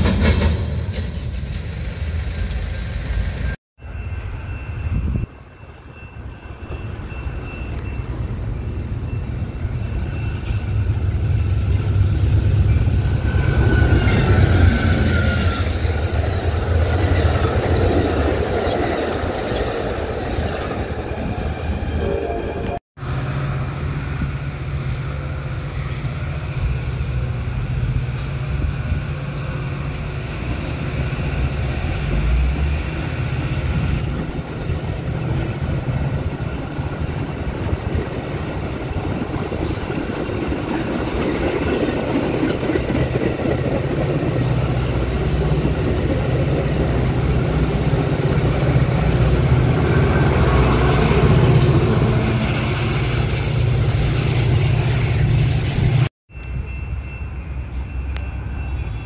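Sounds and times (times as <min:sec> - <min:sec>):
diesel locomotive: 0:00.0 - 0:59.0
train wheels rumbling on rail: 0:00.0 - 0:59.0.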